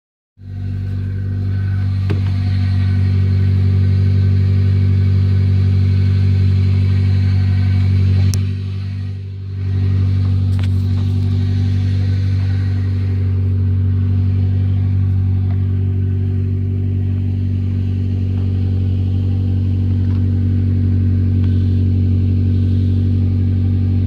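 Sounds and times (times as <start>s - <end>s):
unmuffled car engine idling: 0.4s - 24.0s.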